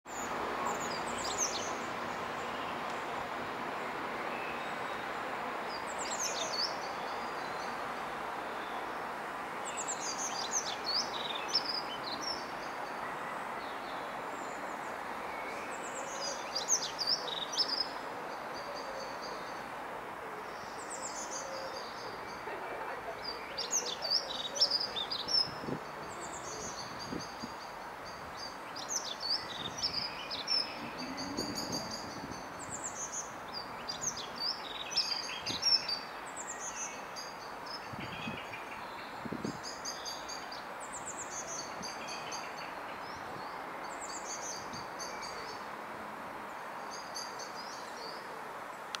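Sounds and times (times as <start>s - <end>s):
songbird singing: 0.1s - 45.8s, 46.4s - 49.0s.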